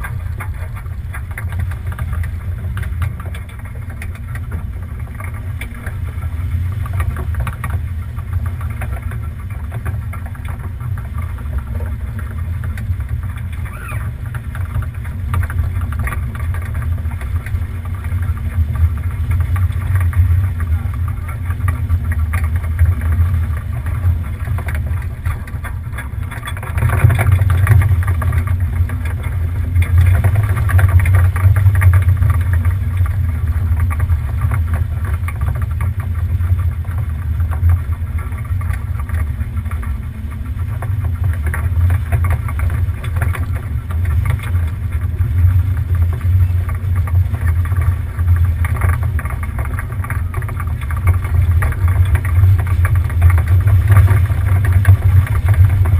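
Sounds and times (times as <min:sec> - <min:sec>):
low rumble: 0:00.0 - 0:55.9.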